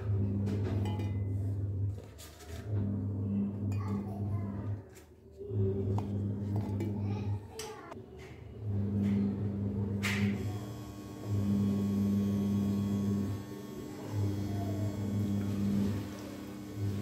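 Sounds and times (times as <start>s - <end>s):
mixer motor hum: 0.0s - 2.0s, 2.6s - 7.6s, 8.6s - 17.0s.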